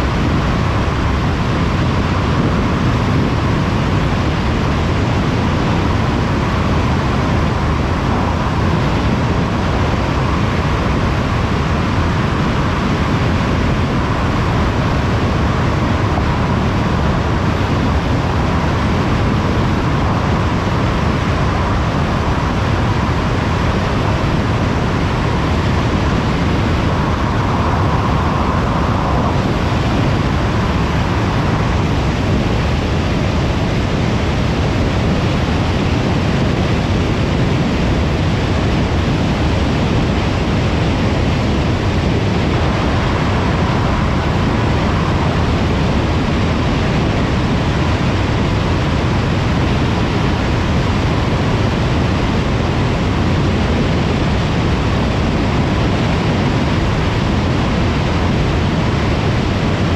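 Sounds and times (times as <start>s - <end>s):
car road noise: 0.0s - 55.4s
faint hum: 0.0s - 59.9s.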